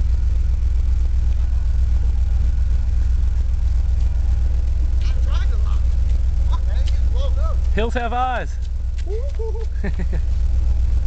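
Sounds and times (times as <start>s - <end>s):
deep low rumble: 0.0s - 11.0s.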